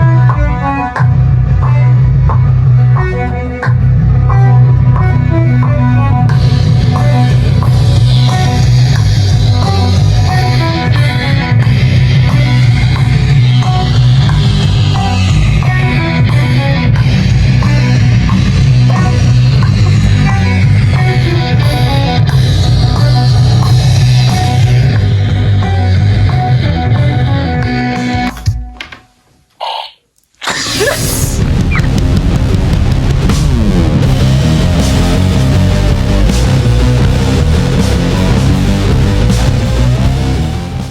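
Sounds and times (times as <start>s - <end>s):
rock music with guitar and bass: 0.0s - 28.9s, 30.4s - 40.9s.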